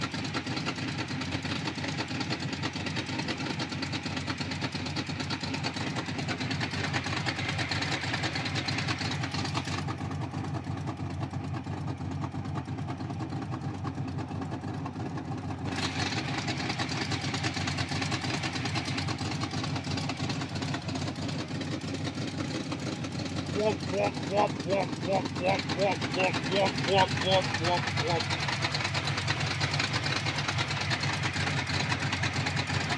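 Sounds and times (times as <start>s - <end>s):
engine idling with loping beat: 0.0s - 32.9s.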